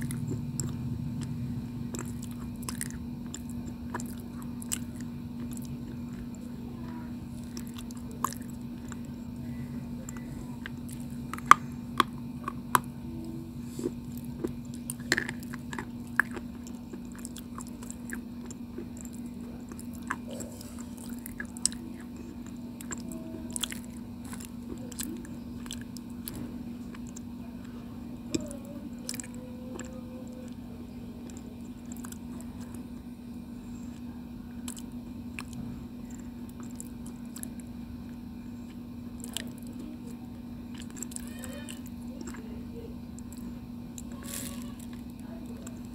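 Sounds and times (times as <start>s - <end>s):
close chewing with crunches: 0.0s - 45.9s
steady low hum: 0.0s - 45.9s.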